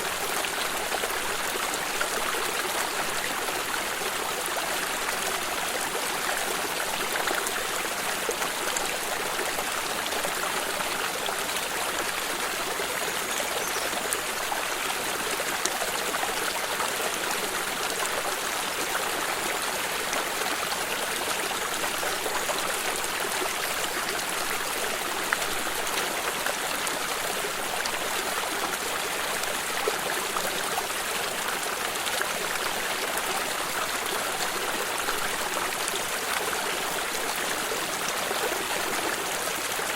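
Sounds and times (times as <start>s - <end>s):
water stream rushing: 0.0s - 39.9s.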